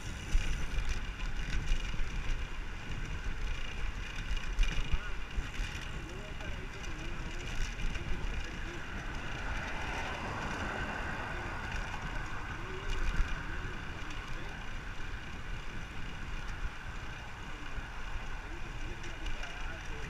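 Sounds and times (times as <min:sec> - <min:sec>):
road and traffic noise: 0:00.0 - 0:20.0
wind buffeting microphone: 0:00.0 - 0:20.0.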